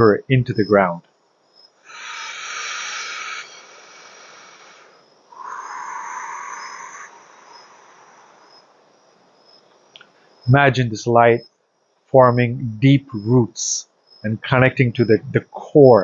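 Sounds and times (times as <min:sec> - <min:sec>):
crickets chirping: 0:00.0 - 0:16.0
insects buzzing: 0:00.0 - 0:16.0.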